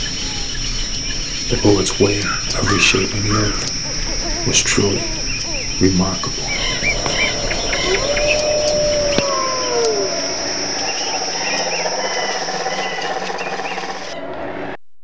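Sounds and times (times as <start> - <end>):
bird chirps: 0.0 - 14.2
high insect trill: 0.0 - 14.2.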